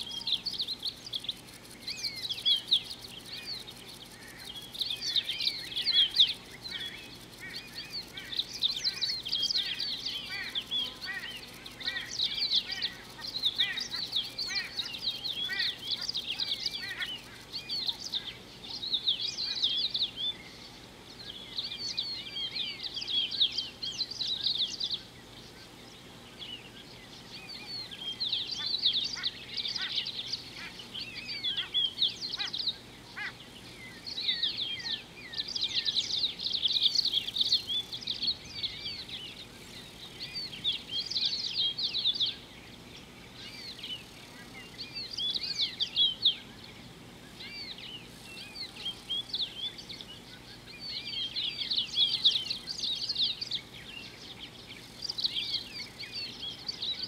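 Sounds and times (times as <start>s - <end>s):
birds chirping: 0.0s - 57.0s
faint outdoor hiss: 0.0s - 57.0s.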